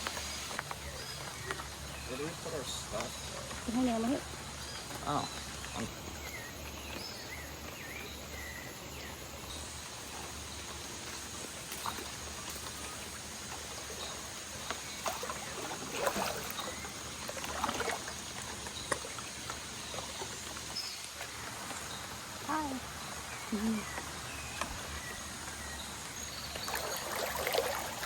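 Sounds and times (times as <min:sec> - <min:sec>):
water flowing: 0:00.0 - 0:28.0.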